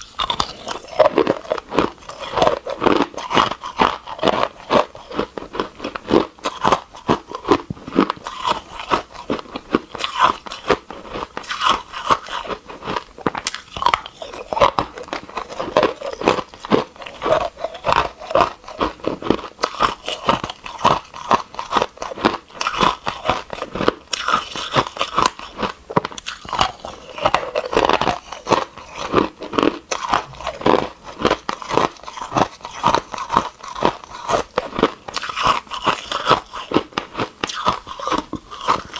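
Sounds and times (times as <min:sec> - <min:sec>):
ice cubes crunching while chewed: 0:00.0 - 0:38.9.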